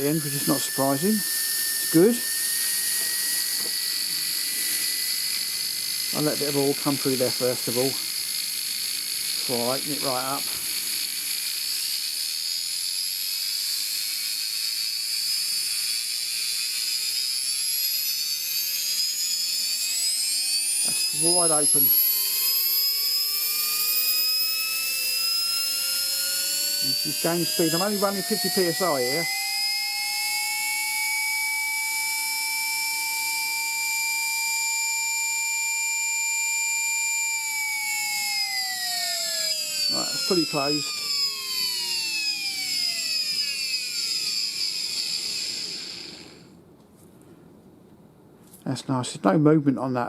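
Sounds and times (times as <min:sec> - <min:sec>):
air grinder whine and hiss: 0:00.0 - 0:46.6.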